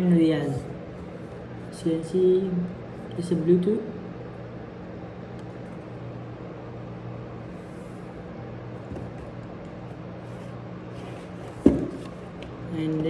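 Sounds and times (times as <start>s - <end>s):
low hum with fixed tones: 0.0s - 13.0s.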